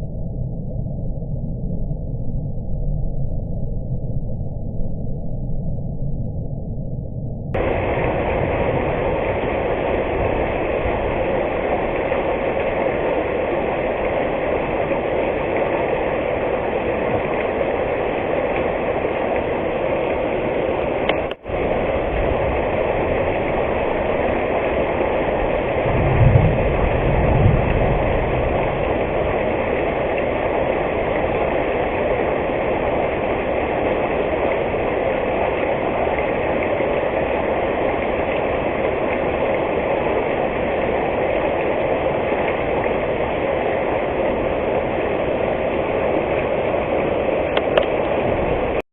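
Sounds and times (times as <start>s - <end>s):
rain falling: 7.6s - 48.8s.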